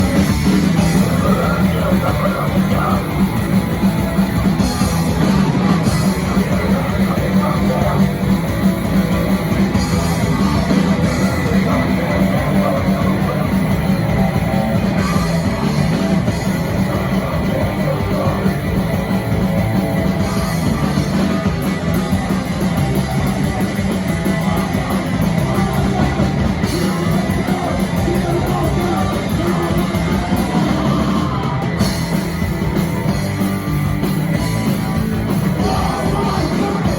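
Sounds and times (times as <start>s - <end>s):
heavy rock music: 0.0s - 36.9s.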